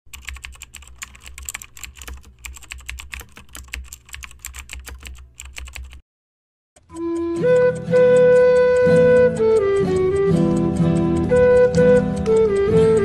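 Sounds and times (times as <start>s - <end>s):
rapid keyboard typing: 0.1s - 6.0s, 6.8s - 13.0s.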